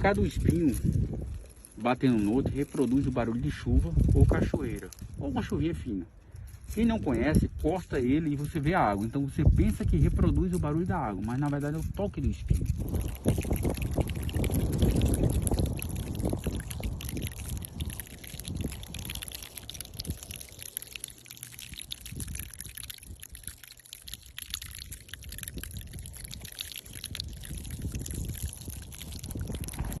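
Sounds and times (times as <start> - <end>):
cactus spines brushed and tapped: 0.0 - 23.3, 25.8 - 30.0.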